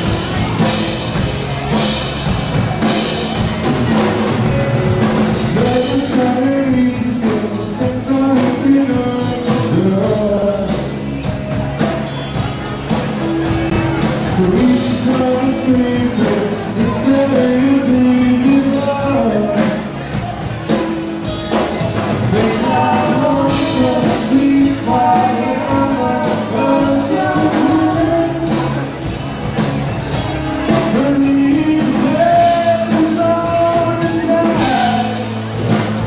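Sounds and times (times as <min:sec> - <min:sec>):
song with singing voice: 0:00.0 - 0:36.0
steady drum beat: 0:00.0 - 0:36.0.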